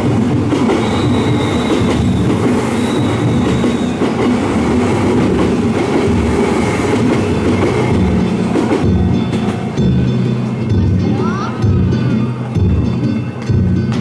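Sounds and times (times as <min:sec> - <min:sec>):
train rushing noise: 0:00.0 - 0:14.0
train wheels clattering on rails: 0:00.0 - 0:14.0.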